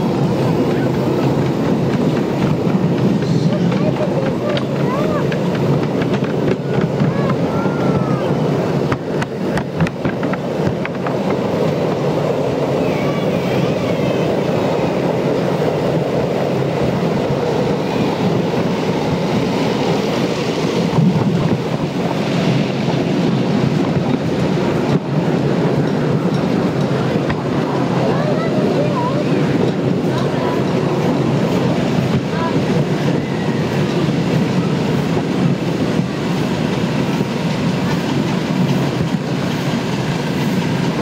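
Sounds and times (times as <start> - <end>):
train wheels rumbling on rails: 0.0 - 41.0
wheels clicking over rail joints: 0.0 - 41.0.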